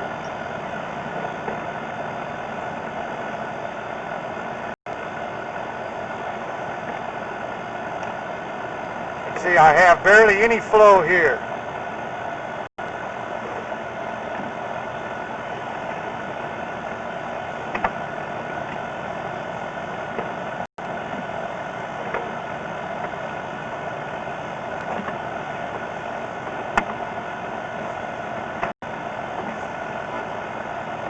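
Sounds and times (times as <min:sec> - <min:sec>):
motor idling: 0:00.0 - 0:31.0.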